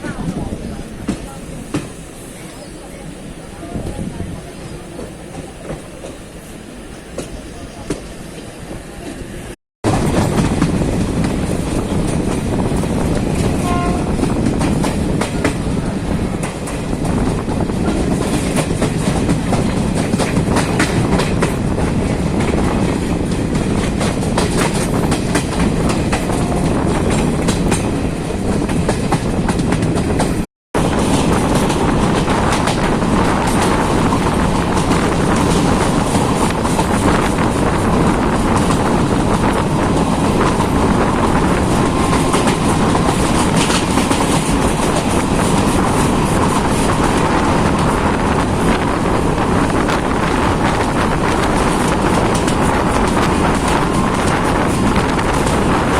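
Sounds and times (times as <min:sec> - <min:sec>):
train rumble: 0:00.0 - 0:55.9
train wheels clicking over rail joints: 0:09.9 - 0:28.0, 0:28.6 - 0:55.9.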